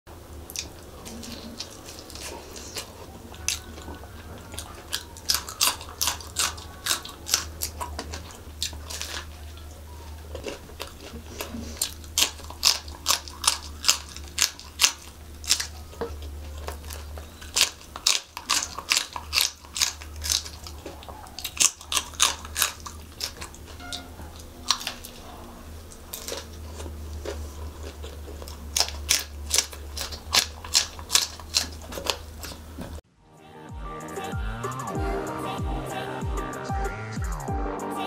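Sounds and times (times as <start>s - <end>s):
steady low hum: 0.1s - 38.0s
crunching chillies being chewed: 0.4s - 33.0s.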